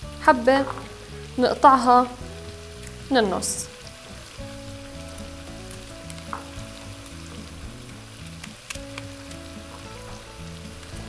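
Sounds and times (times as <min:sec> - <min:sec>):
onions sizzling in oil: 0:00.0 - 0:11.0
soft background music: 0:00.0 - 0:11.0.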